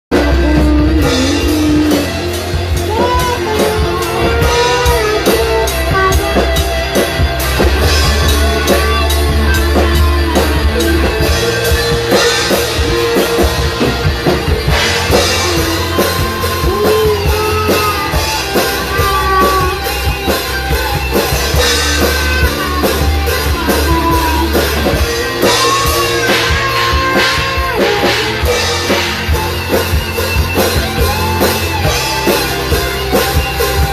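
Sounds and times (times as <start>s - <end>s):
drums: 0.0s - 33.9s
guitar: 0.0s - 33.9s
person singing: 0.1s - 33.9s.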